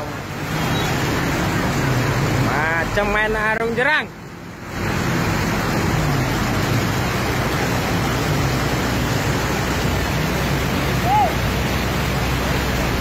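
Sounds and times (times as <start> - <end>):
floodwater rushing: 0.0 - 13.0
low engine hum: 0.0 - 13.0.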